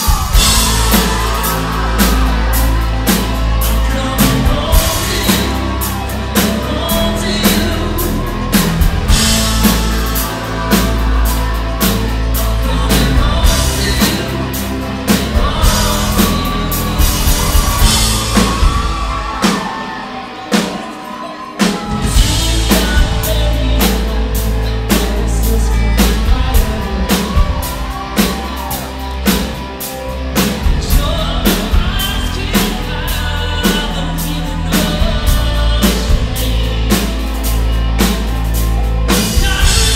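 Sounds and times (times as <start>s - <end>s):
man singing: 0.0s - 19.7s, 21.6s - 29.0s, 30.4s - 39.9s
live rock band playing: 0.0s - 39.9s.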